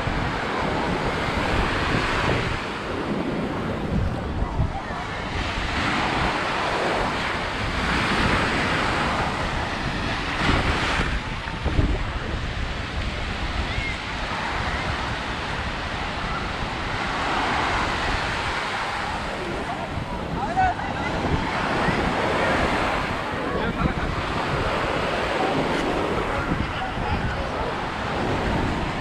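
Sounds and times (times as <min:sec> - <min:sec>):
waves breaking on sandy shore: 0:00.0 - 0:29.0
wind rumbling on microphone: 0:00.0 - 0:29.0.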